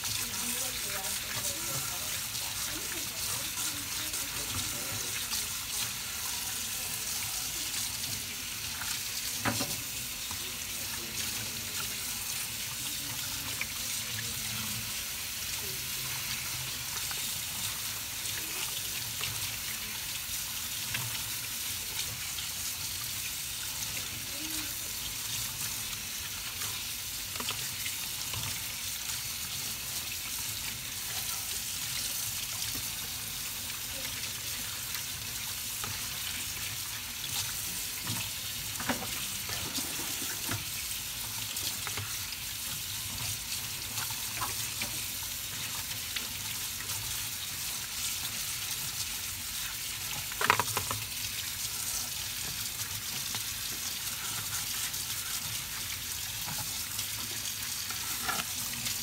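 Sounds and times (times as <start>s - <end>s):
tap water splashing in sink: 0.0s - 59.0s.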